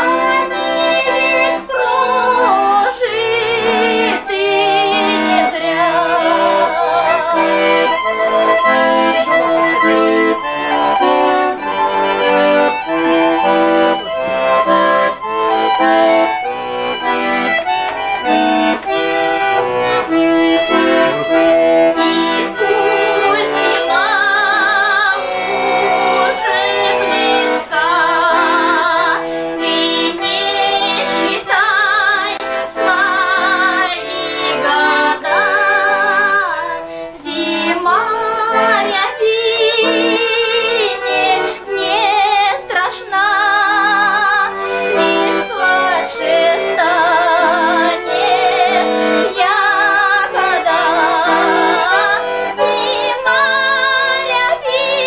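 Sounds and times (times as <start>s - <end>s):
accordion playing lively tune: 0.0s - 55.0s.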